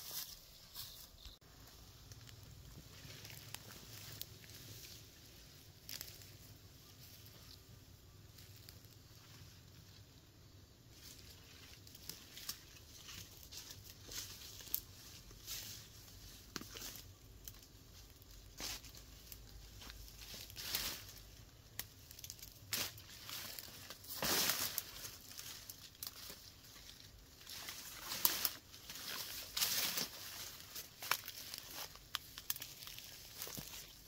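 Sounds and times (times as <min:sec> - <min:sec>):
leaves rustling and tearing: 0:00.0 - 0:07.7, 0:10.9 - 0:34.0.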